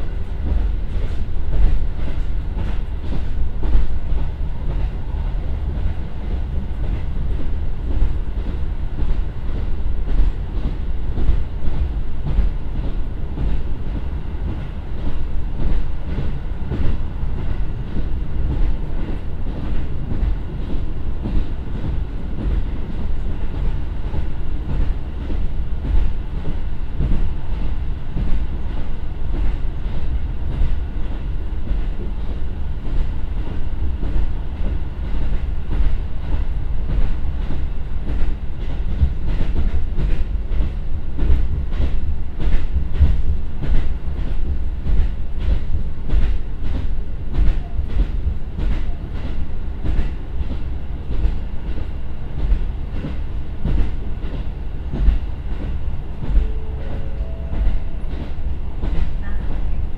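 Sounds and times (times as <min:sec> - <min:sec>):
rail joint clacks: 0:00.0 - 0:59.9
train wheels rumbling on rail: 0:00.0 - 0:59.9.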